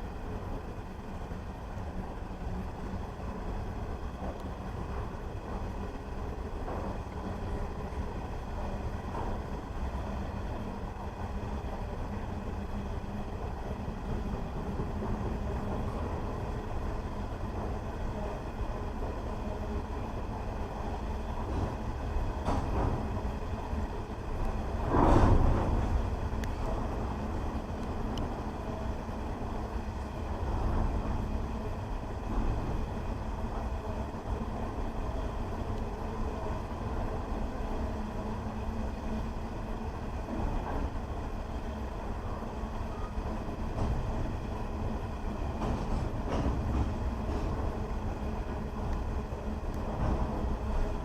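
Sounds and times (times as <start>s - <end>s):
freight train wheels rumbling on rail: 0.0s - 51.0s.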